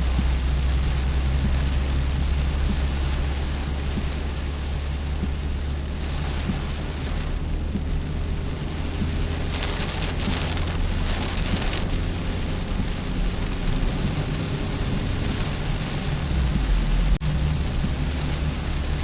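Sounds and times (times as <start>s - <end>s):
car engine and road drone: 0.0s - 19.0s
rain and tyre spray hiss: 0.0s - 19.0s.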